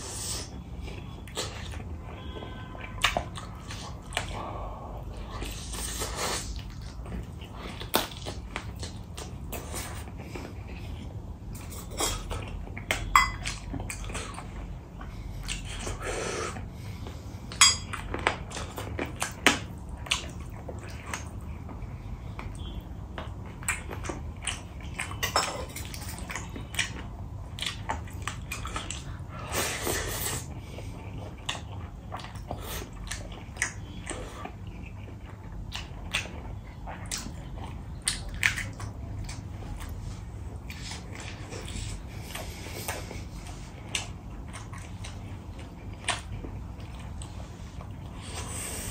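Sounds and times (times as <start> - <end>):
chewing and wet mouth sounds: 0.0 - 48.9.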